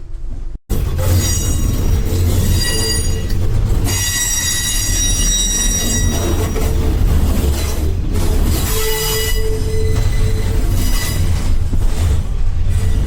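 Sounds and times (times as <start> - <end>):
train running rumble: 0.0 - 13.0
train wheels squealing: 1.0 - 12.0.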